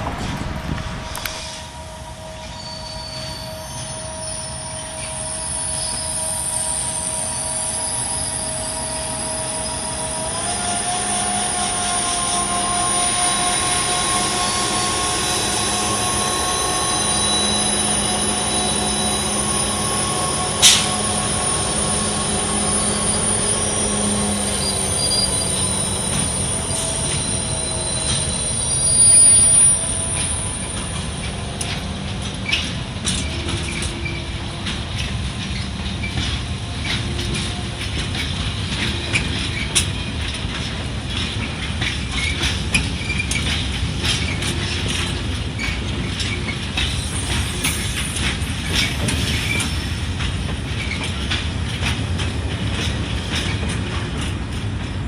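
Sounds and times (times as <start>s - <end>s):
train wheels squealing: 0.0s - 55.0s.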